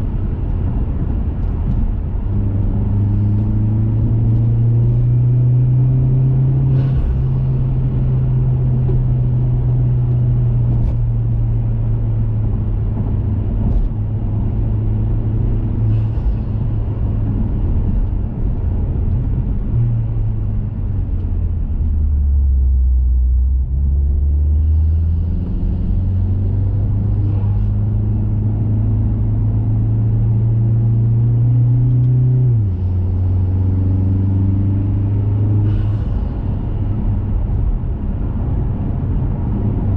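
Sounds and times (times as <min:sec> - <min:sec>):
car engine drone while driving: 0:00.0 - 0:39.9.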